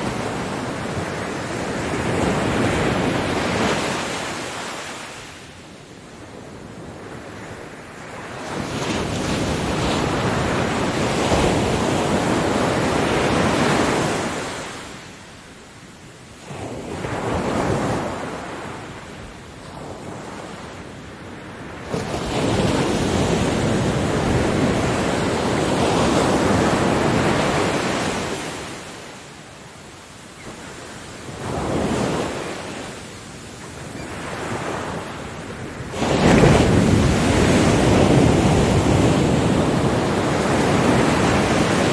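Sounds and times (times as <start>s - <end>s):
ocean waves breaking: 0.0s - 15.4s, 16.3s - 41.9s.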